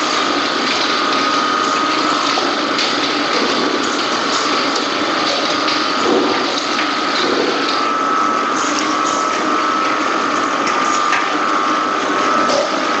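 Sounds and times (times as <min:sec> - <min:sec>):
steady machine whine: 0:00.0 - 0:13.0.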